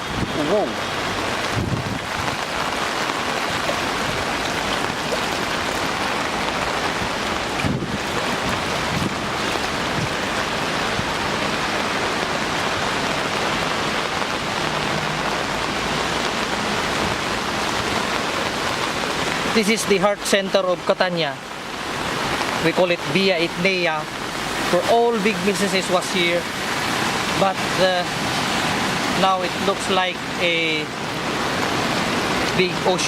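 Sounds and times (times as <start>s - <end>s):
floodwater rushing down street: 0.0s - 33.0s.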